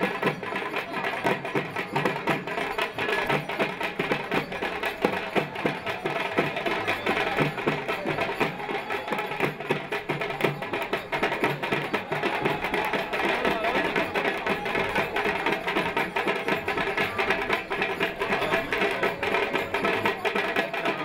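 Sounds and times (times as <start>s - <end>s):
frame drums beaten in fast rhythm: 0.0s - 21.0s.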